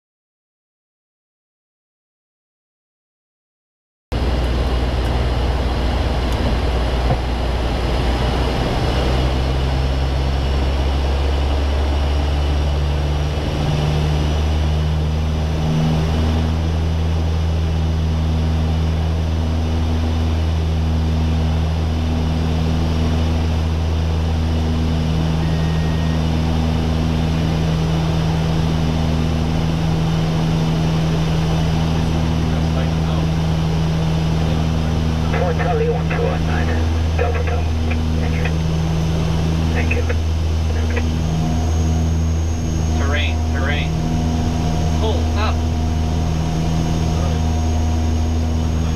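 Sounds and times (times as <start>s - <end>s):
turboprop engines droning: 4.1s - 48.9s.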